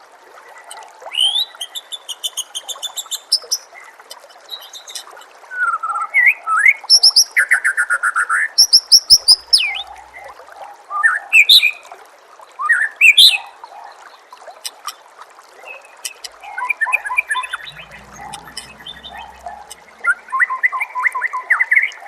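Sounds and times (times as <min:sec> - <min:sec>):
trickling water: 0:00.0 - 0:22.0.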